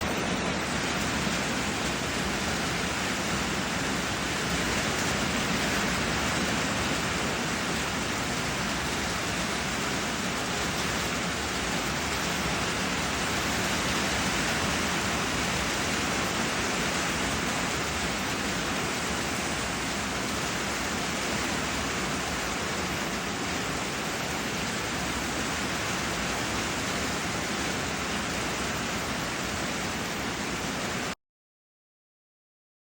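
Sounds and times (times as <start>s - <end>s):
steady rain hiss: 0.0s - 31.2s.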